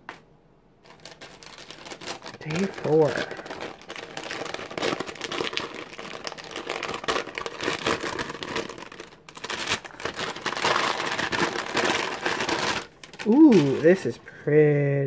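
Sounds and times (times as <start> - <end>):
paper envelope crinkling: 0.8 - 14.4.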